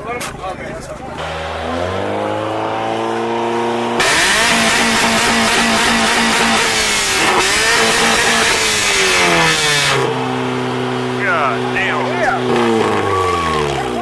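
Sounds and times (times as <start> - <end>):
car engine revving: 1.0 - 14.0.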